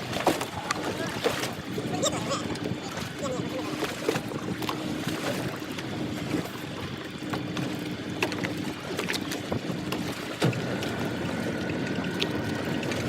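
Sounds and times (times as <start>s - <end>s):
boat engine humming: 0.0s - 13.0s
water noise: 0.0s - 13.0s
wind: 0.0s - 13.0s.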